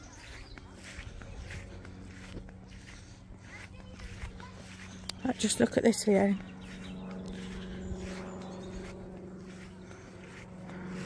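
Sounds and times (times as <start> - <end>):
footsteps swishing through grass: 0.0 - 11.0.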